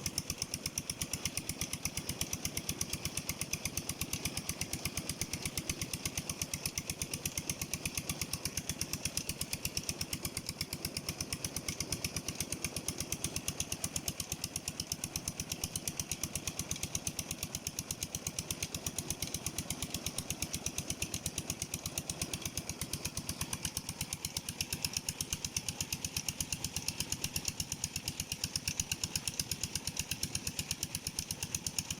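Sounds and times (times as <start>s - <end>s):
pump engine running: 0.0s - 32.0s.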